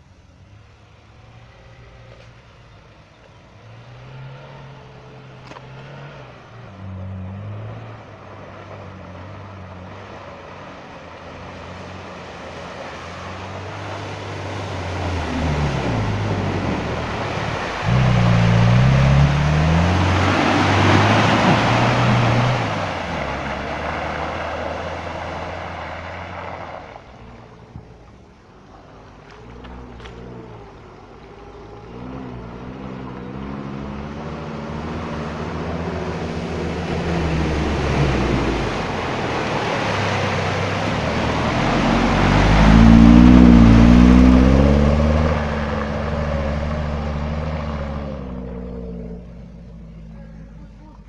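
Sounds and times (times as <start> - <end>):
car engine revving: 0.0 - 51.0
splashing through mud and water: 5.3 - 51.0.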